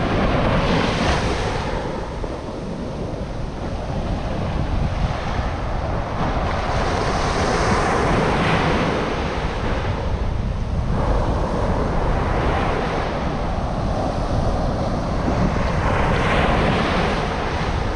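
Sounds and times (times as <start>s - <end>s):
ocean surf breaking: 0.0s - 17.9s
wind rumbling on microphone: 0.0s - 17.9s.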